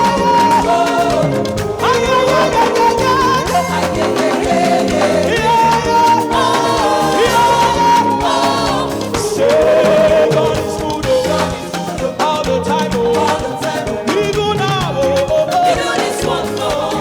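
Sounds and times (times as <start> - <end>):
live band playing gospel music: 0.0 - 17.0
person singing: 0.0 - 17.0.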